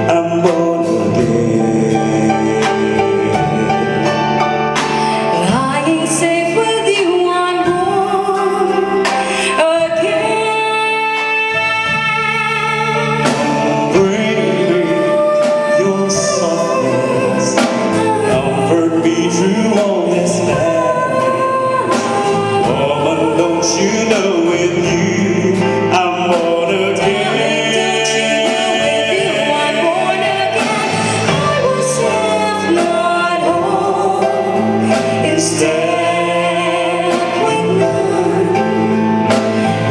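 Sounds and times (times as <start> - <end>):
live band playing with singers: 0.0 - 39.9.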